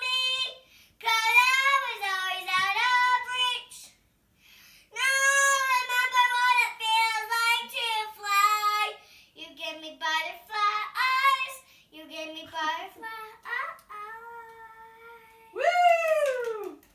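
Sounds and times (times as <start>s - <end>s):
girl singing unaccompanied: 0.0s - 4.0s, 4.9s - 15.6s.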